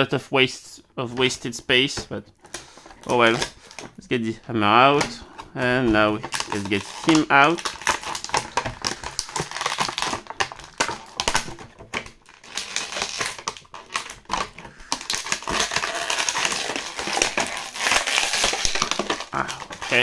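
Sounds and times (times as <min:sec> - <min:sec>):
plastic packaging crackling: 0:02.4 - 0:04.1, 0:04.8 - 0:20.0.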